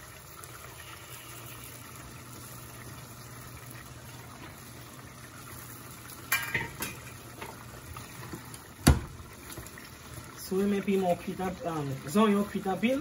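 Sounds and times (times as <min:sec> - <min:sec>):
sauce bubbling in pot: 0:00.0 - 0:13.0.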